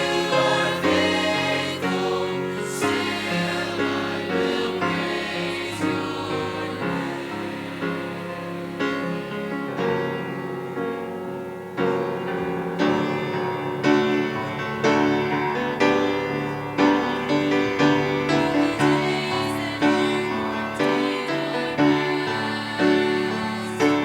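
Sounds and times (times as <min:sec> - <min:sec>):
piano chords ringing: 0:00.0 - 0:24.0.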